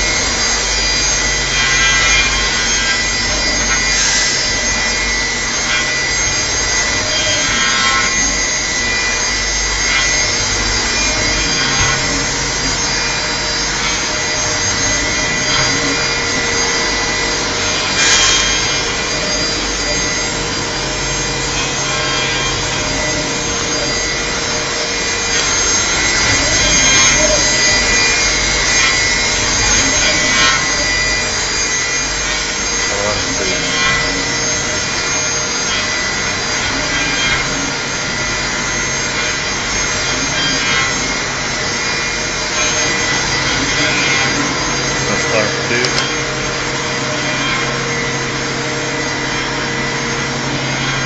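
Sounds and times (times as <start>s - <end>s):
machine spindle whine: 0.0s - 51.0s.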